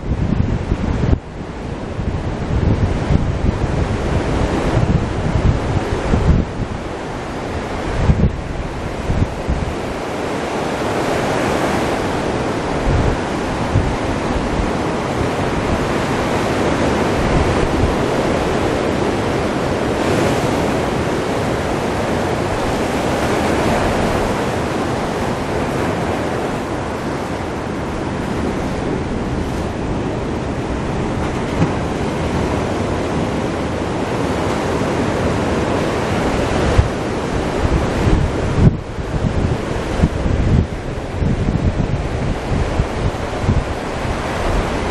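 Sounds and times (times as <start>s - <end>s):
surf breaking on a beach: 0.0s - 44.9s
wind buffeting microphone: 0.0s - 44.9s.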